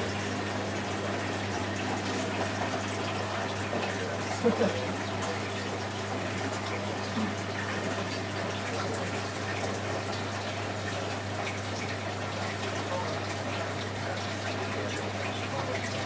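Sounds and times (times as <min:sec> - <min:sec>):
washing machine taking in water: 0:00.0 - 0:16.0.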